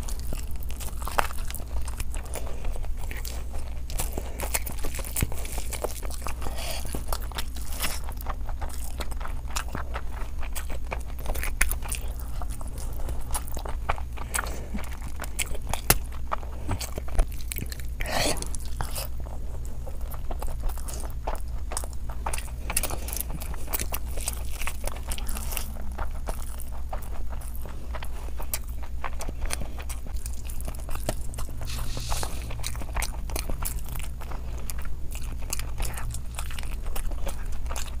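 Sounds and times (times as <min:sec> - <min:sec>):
close chewing and biting: 0:00.0 - 0:38.0
steady low hum: 0:00.0 - 0:38.0.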